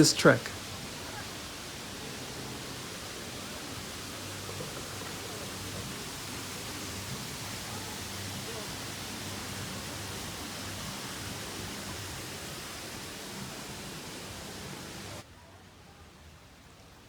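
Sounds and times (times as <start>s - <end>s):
dull hiss: 0.0s - 15.3s
steady rushing outdoor noise: 0.0s - 17.0s.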